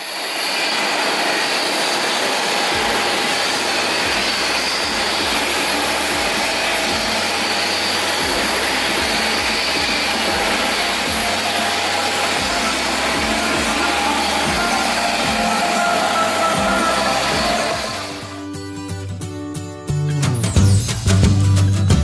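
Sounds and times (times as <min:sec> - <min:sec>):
faint high whine: 0:00.0 - 0:18.8
jet engine roaring: 0:00.0 - 0:18.8.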